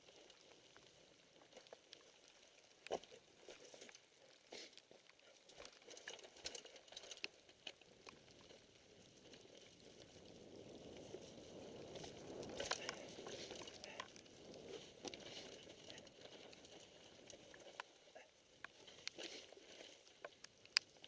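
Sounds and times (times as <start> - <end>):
bike tyres ticking on wet trail: 0.0 - 21.0
rain: 0.0 - 21.0
rough rustling: 0.0 - 21.0.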